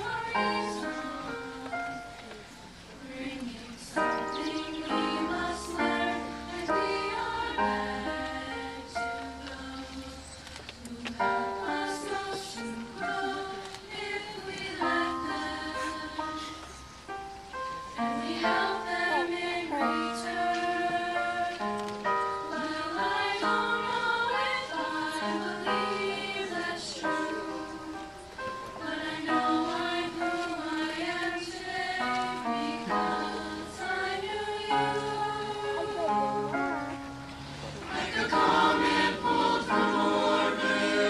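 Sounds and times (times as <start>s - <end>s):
choir singing in parts: 0.0s - 2.3s, 2.9s - 37.1s, 37.7s - 41.0s.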